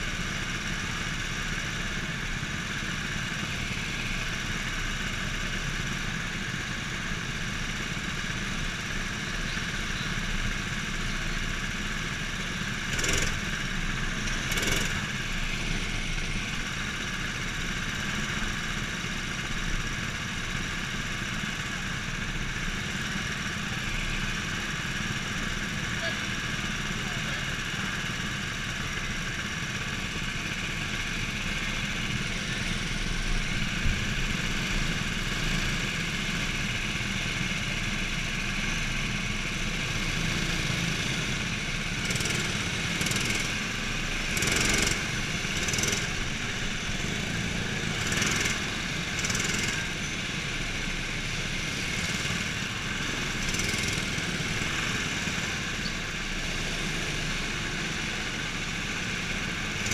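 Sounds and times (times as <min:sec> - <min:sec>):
go-kart engines: 0:00.0 - 0:59.9.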